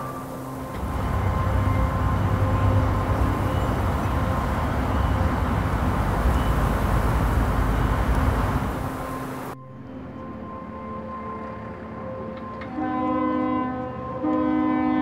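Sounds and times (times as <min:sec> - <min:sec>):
music drone: 0:00.0 - 0:15.0.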